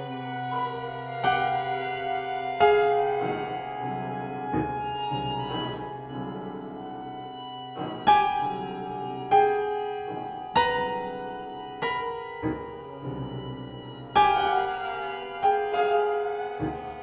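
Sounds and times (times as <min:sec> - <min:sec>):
held bowed string tones: 0:00.0 - 0:17.0
loud piano chords: 0:00.0 - 0:17.0.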